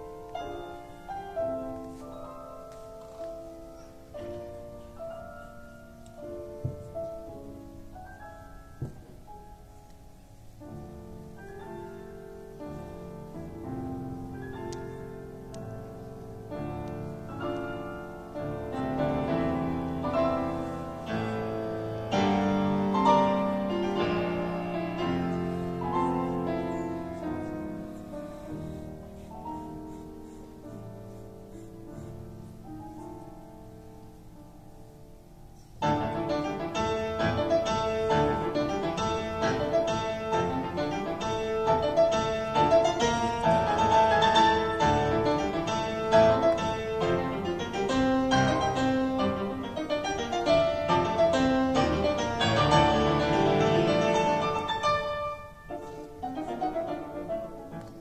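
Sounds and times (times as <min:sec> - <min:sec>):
classical piano music: 0:00.0 - 0:58.0.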